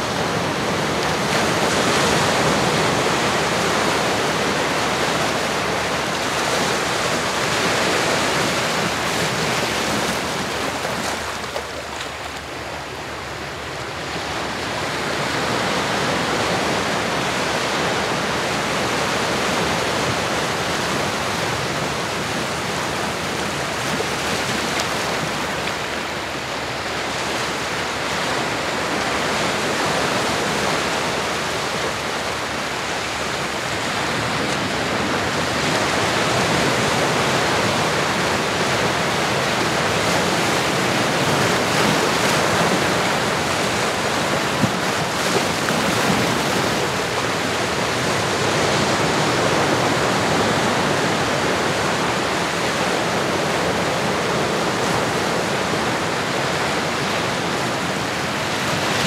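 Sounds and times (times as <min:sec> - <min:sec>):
ocean surf waves: 0:00.0 - 0:59.0.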